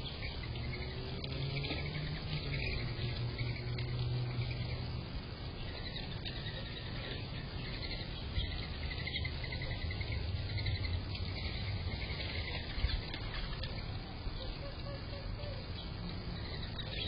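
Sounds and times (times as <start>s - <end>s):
birds chirping: 0.0s - 17.0s
low steady hum: 0.0s - 17.0s.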